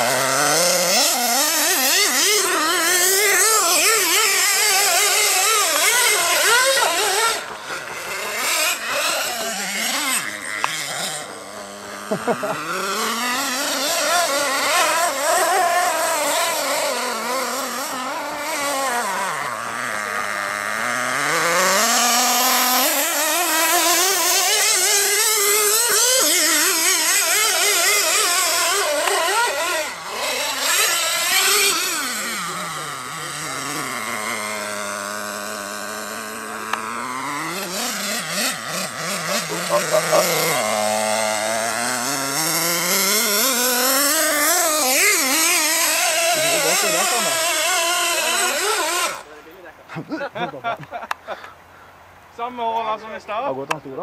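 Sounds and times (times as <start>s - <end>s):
rc buggy motor revving: 0.0s - 51.5s.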